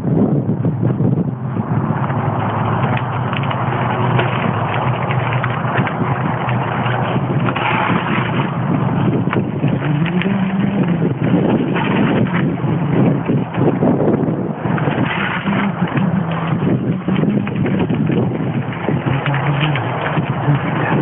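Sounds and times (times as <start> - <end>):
wind buffeting microphone: 0.0 - 21.0
bike rattling over gravel: 0.7 - 21.0.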